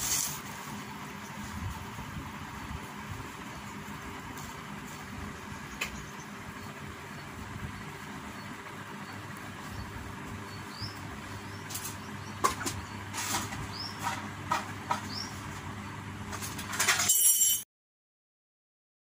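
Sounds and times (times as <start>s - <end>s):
low background hum: 0.0s - 17.6s.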